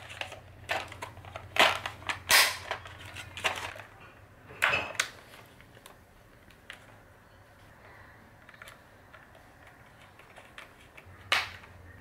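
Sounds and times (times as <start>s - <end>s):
plastic parts clicking and clattering: 0.0s - 6.9s, 8.4s - 11.8s.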